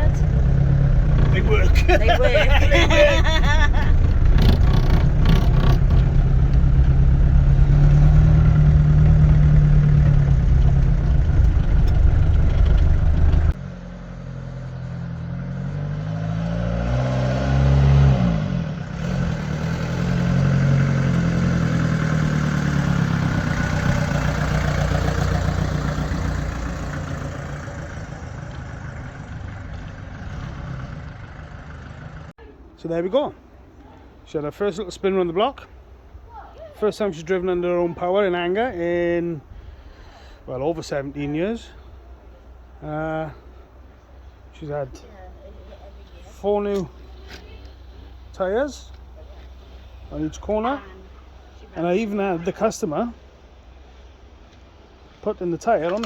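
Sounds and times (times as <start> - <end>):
van engine running: 0.0 - 55.2.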